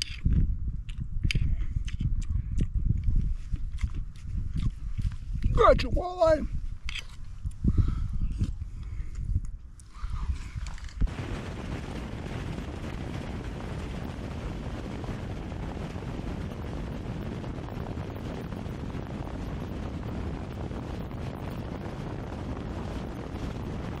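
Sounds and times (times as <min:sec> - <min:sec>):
wind rushing: 0:00.2 - 0:24.0.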